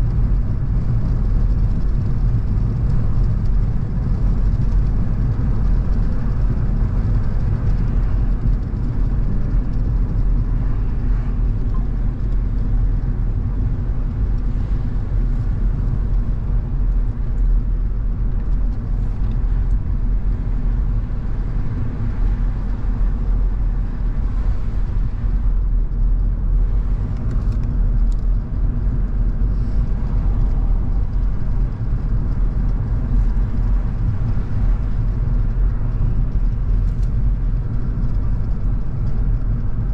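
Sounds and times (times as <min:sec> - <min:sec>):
car engine and tyre hum: 0:00.0 - 0:39.9.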